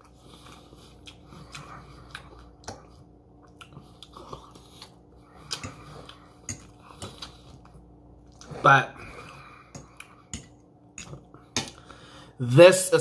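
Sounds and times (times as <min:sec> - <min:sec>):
person chewing food: 0:00.0 - 0:12.1.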